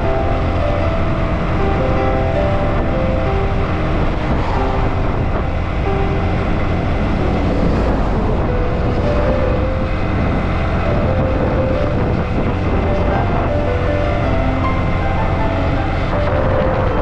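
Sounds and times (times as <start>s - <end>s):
wind rush and road noise: 0.0s - 17.0s.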